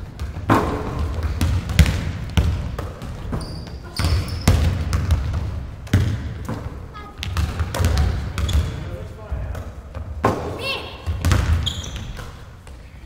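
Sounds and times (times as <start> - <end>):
basketballs bouncing on hardwood: 0.0 - 12.8.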